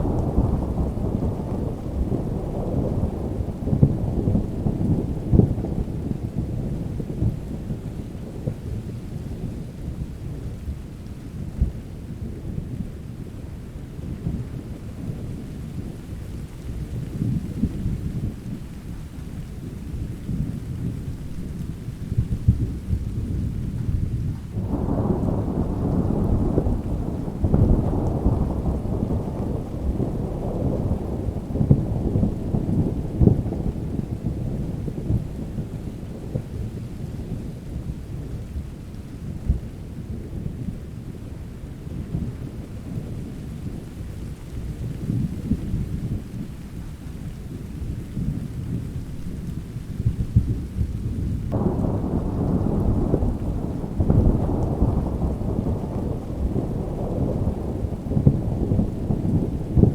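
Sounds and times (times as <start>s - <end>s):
rolling thunder: 0.0s - 59.9s
steady rain: 0.0s - 59.9s.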